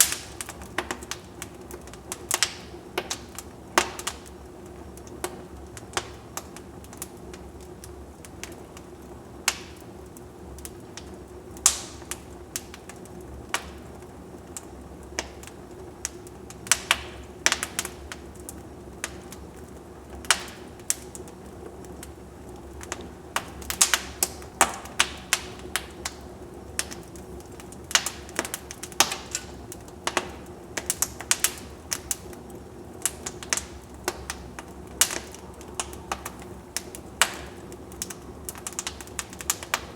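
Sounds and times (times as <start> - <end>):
low hiss of flame: 0.0 - 39.9
wood fire crackling and popping: 0.0 - 39.9.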